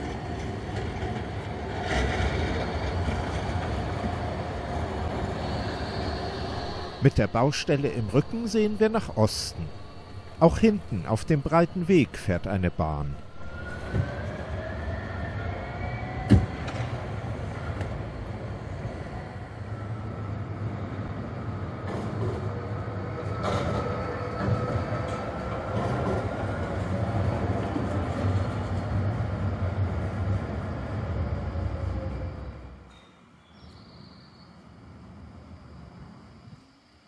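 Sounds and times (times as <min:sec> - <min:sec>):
tram wheels rumbling on rails: 0:00.0 - 0:32.9.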